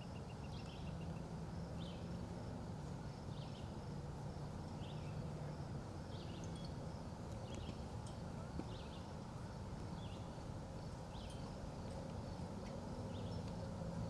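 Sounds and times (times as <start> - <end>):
low background rumble: 0.0 - 14.0
small songbird chirping: 0.0 - 14.0.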